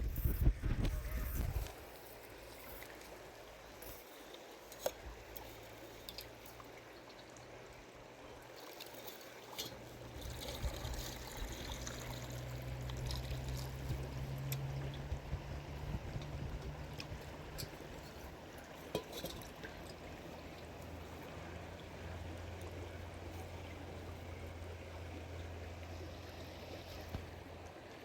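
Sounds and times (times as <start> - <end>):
low steady hum: 0.0 - 28.0
water trickling: 1.5 - 28.0.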